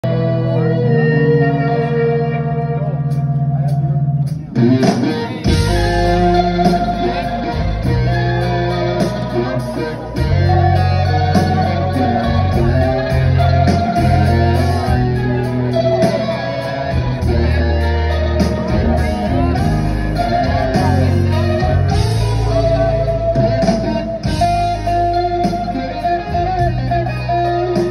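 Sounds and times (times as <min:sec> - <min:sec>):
electric guitar melodic lines: 0:00.0 - 0:27.9
held bass notes: 0:00.0 - 0:27.9
live rock band: 0:00.0 - 0:27.9.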